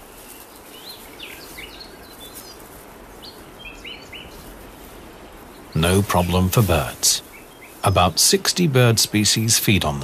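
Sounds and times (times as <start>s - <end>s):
forest ambience: 0.0s - 10.0s
small birds chirping: 0.0s - 10.0s.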